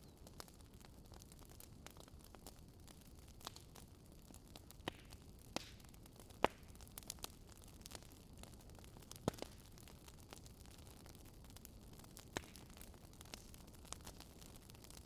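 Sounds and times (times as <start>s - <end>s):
campfire wood crackling: 0.0s - 15.0s.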